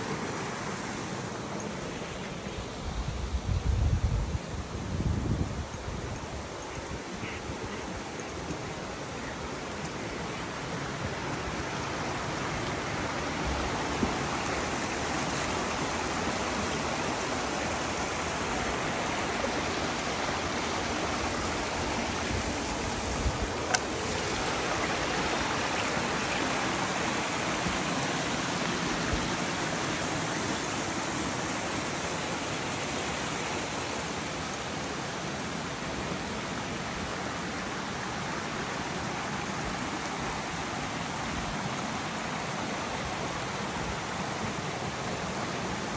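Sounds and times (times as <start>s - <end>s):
stream rushing over stones: 0.0s - 45.9s.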